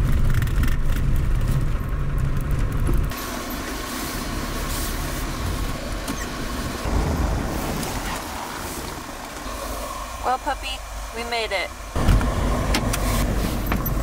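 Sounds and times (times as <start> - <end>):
engine and road rumble from inside: 0.0 - 14.0.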